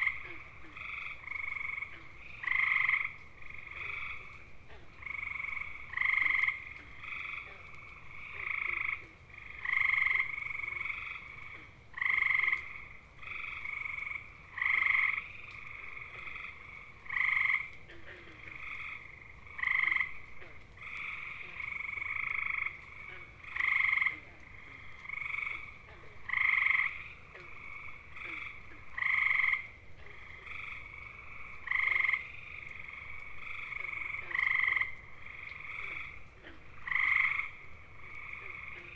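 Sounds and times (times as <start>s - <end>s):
distant frog trills: 0.0s - 38.9s
tree frog trilling: 0.0s - 38.9s.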